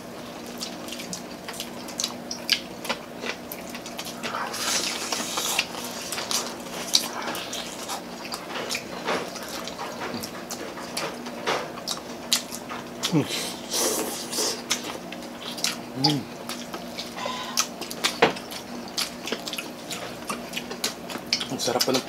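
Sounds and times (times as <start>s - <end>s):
crunching fried chicken: 0.0s - 22.0s
wet chewing and lip-smacking: 0.3s - 22.0s.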